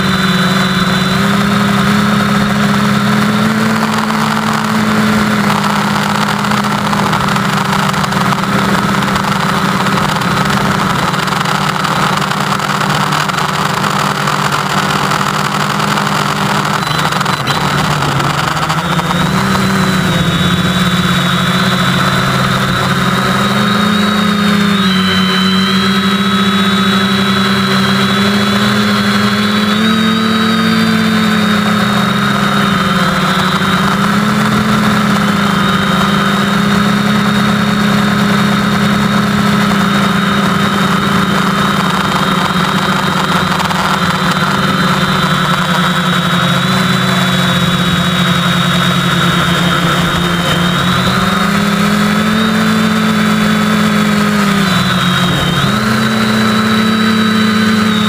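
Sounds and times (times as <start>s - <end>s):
quadcopter motors humming and whining: 0.0s - 58.0s.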